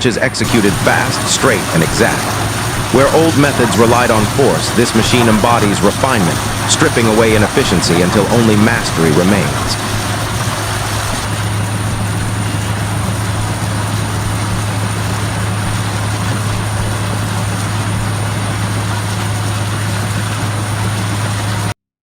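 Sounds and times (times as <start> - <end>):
diesel engine running: 0.0 - 21.8.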